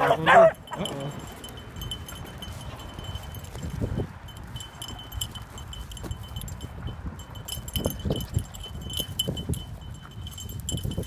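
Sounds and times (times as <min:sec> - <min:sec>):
low wind rumble: 0:00.0 - 0:11.0
small metal bell jingling: 0:00.4 - 0:11.0.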